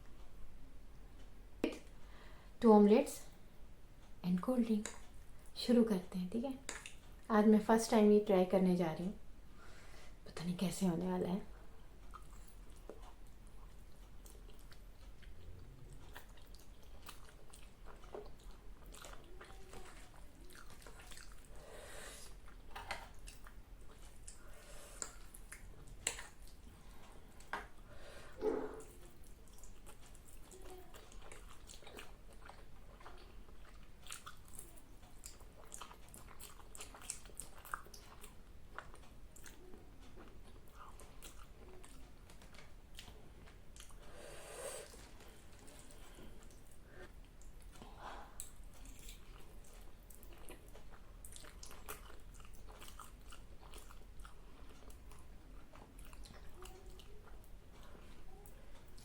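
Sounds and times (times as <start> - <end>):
person chewing food: 6.7 - 7.3, 11.6 - 59.0.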